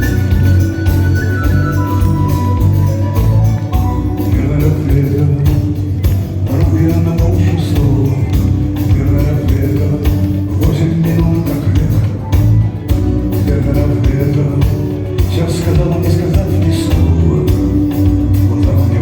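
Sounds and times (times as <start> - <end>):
electric guitar: 0.0 - 19.0
rock band playing live: 0.0 - 19.0.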